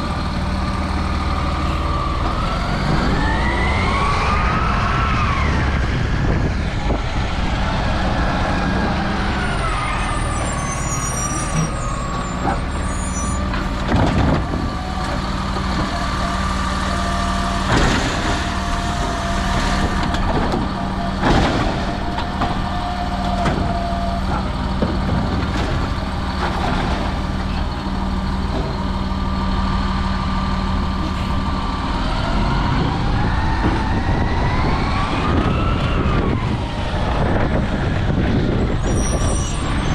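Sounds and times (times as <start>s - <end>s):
recycling truck engine whining: 0.0s - 39.9s.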